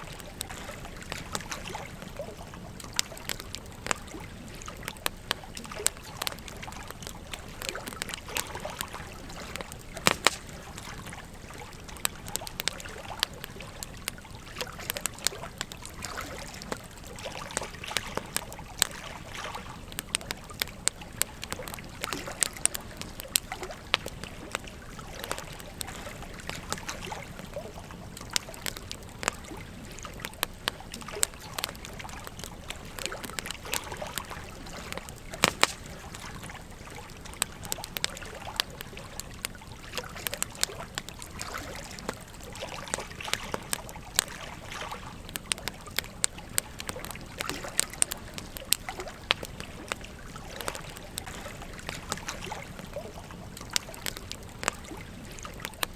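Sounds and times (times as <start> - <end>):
campfire crackling and popping: 0.0 - 55.9
stream trickling: 0.0 - 55.9.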